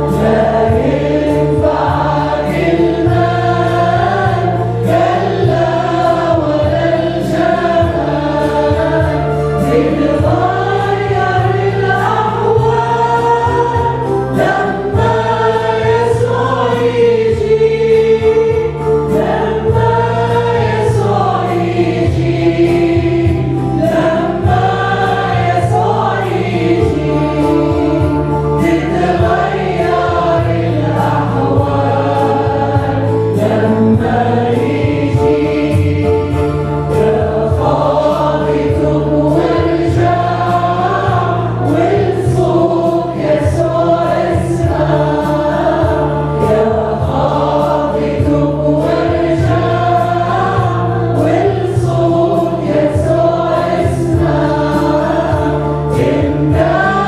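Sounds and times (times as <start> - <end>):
group of women singing a hymn: 0.0 - 57.0
low keyboard notes: 0.0 - 57.0.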